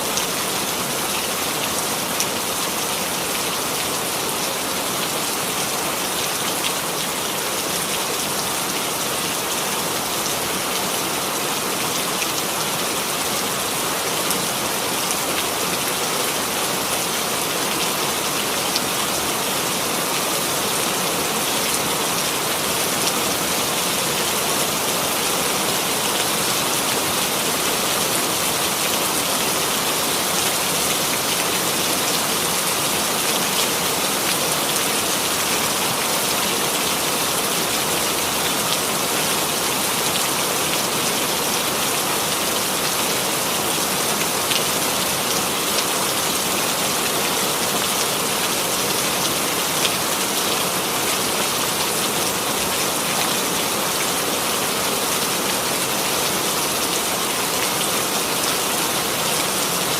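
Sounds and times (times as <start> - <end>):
rain patter on a surface: 0.0 - 59.9.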